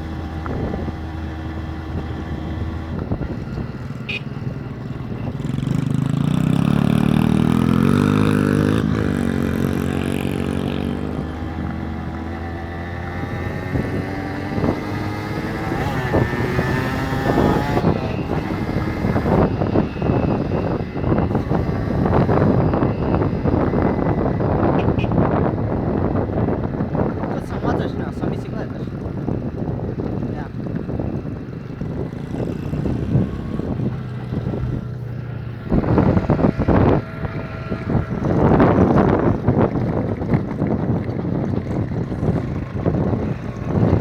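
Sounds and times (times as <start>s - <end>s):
small motorcycle engine: 0.0s - 44.0s
wind buffeting microphone: 0.0s - 44.0s.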